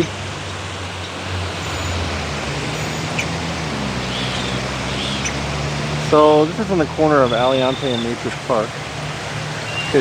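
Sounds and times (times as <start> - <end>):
tyre and road noise: 0.0 - 10.0
vehicles passing: 0.0 - 10.0.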